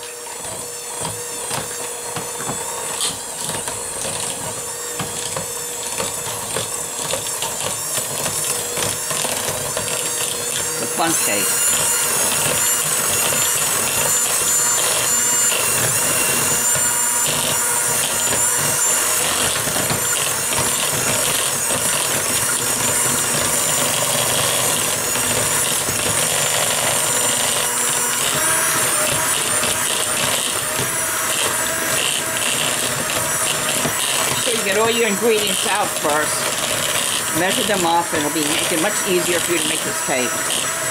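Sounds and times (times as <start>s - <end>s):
electric hand mixer whine: 0.0s - 40.9s.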